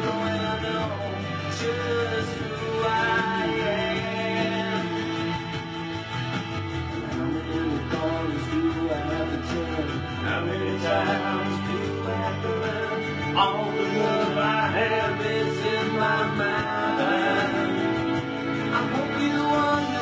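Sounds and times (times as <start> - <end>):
song with singing and beat: 0.0 - 20.0.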